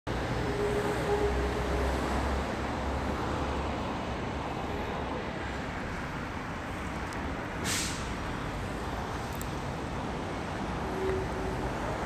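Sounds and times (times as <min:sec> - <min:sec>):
road traffic: 0:00.1 - 0:12.0.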